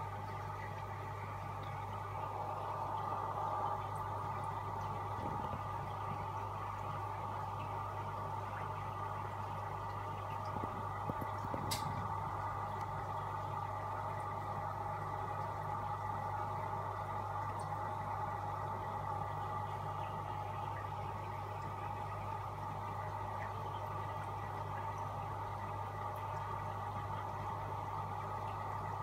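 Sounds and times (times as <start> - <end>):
electric hum: 0.0 - 29.0
moving water: 0.0 - 29.0.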